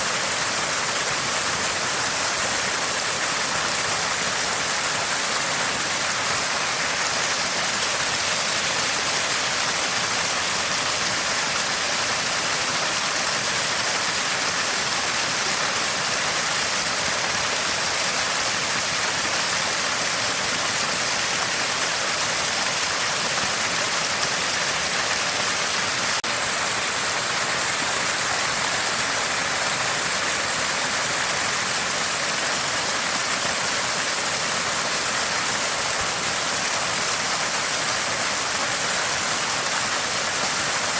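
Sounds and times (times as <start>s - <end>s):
spring water gushing and splashing: 0.0s - 40.9s.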